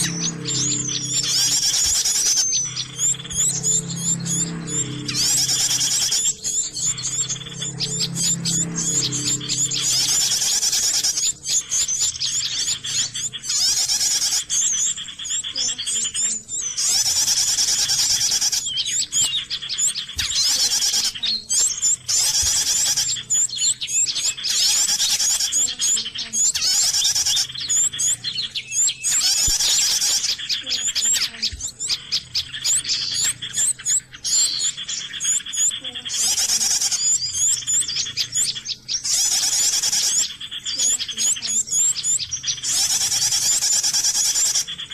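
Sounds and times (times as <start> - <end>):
recorded bird chirping: 0.0 - 44.9.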